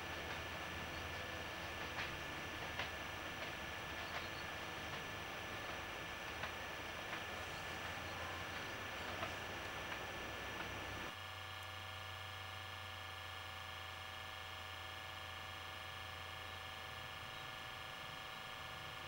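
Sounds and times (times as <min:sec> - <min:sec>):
steady low hum and hiss: 0:00.0 - 0:19.0.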